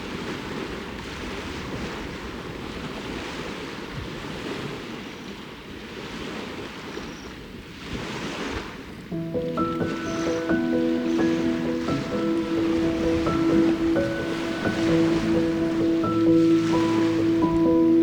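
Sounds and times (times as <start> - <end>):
waves washing onto shore: 0.0 - 18.0
wind buffeting microphone: 0.0 - 18.0.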